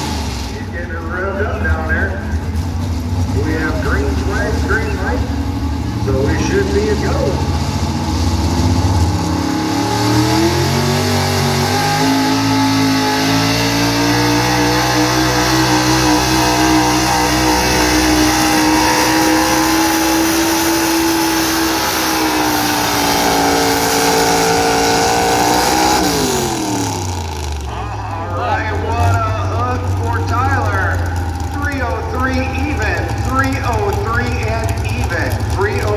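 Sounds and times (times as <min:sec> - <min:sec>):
pickup truck engine at full throttle: 0:00.0 - 0:35.9.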